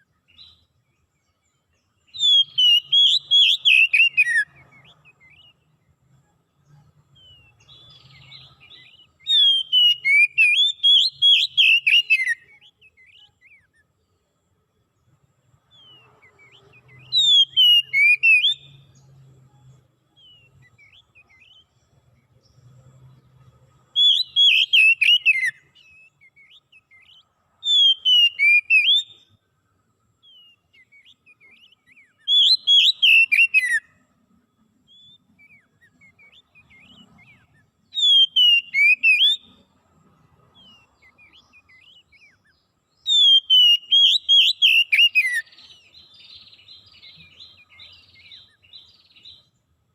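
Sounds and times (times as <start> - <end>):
songbird singing whistled phrase: 0.0 - 0.7, 1.9 - 5.9, 6.7 - 13.9, 15.7 - 19.2, 20.1 - 22.4, 23.9 - 29.4, 30.2 - 34.0, 34.9 - 39.6, 40.6 - 49.5.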